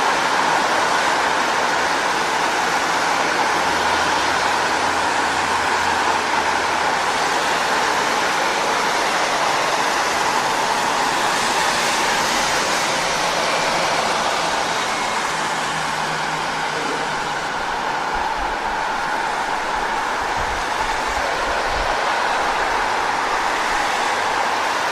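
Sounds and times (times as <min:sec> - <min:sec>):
tyres hissing on wet road: 0:00.0 - 0:24.9.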